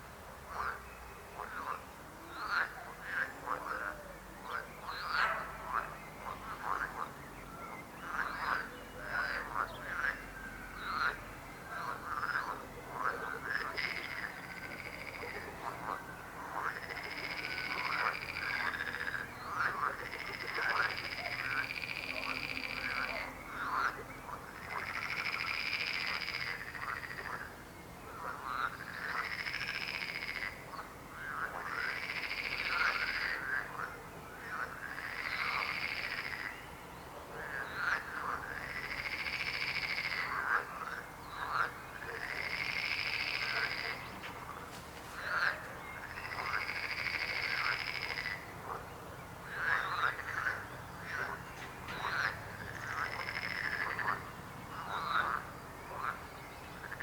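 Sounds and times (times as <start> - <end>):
frogs croaking in chorus: 0.5 - 57.0.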